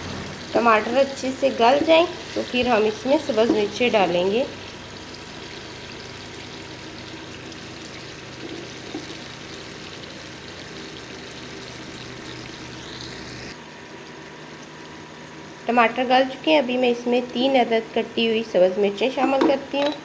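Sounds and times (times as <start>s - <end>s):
tomatoes sizzling in a frying pan: 0.0s - 16.4s.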